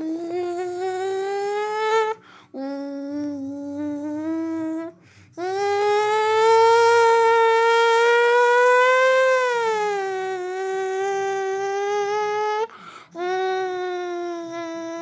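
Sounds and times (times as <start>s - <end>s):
boy imitating car engine: 0.0s - 15.0s.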